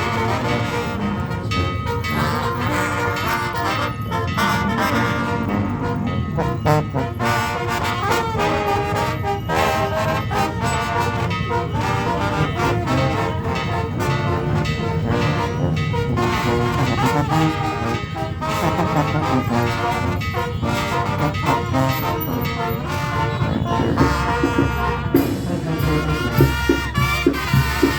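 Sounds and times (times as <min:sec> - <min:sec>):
brass band playing: 0:00.0 - 0:27.9
trombones and trumpets: 0:00.0 - 0:27.9.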